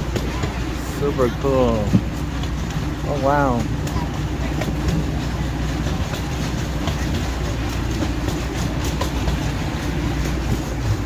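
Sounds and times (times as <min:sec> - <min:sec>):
ride train rumbling: 0:00.0 - 0:11.0
wheels clicking on rails: 0:00.0 - 0:11.0.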